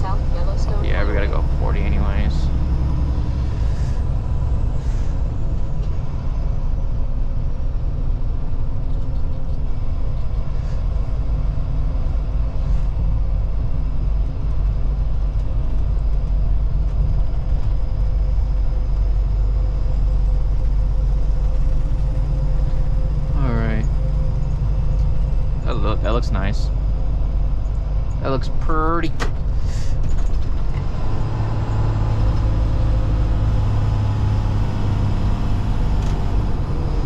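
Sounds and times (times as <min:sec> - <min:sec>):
faint steady whine: 0:00.0 - 0:37.0
truck engine and road rumble: 0:00.0 - 0:37.0.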